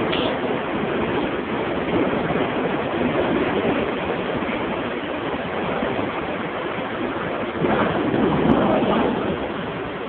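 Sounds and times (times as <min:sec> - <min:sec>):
train running noise from inside: 0:00.0 - 0:10.0.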